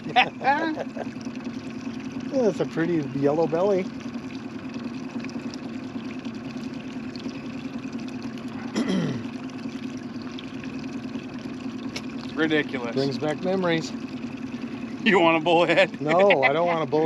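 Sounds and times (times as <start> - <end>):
boat motor humming: 0.0 - 17.0
water trickling and splashing: 0.0 - 17.0.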